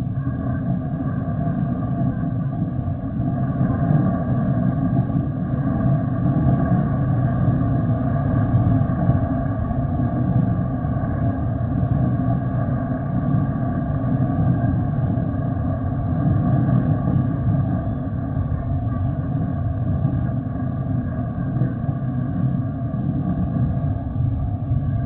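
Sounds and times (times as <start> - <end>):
jet engines at high power: 0.0 - 25.0.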